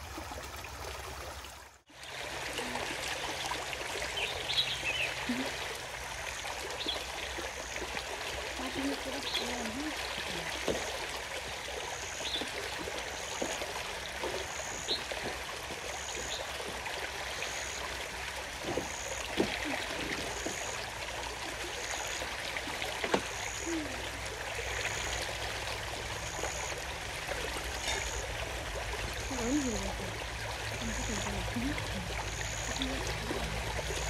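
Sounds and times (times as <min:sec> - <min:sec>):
river water running: 0:00.0 - 0:34.0.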